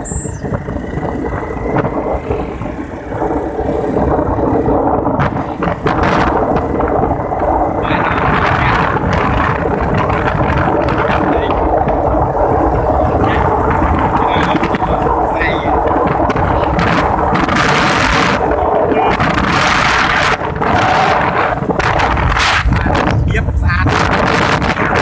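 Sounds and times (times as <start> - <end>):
motorbike engine running: 0.0 - 24.9
wind rushing over microphone: 0.0 - 25.0.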